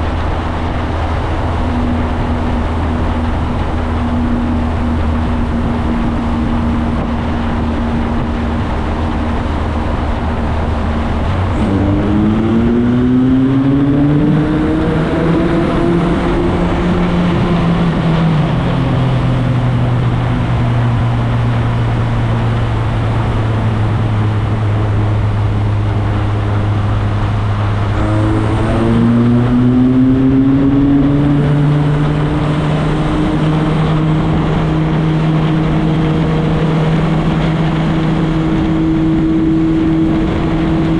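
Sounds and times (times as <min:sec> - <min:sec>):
motorcycle engine accelerating: 0:00.0 - 0:40.9
wind rushing over microphone: 0:00.0 - 0:40.9.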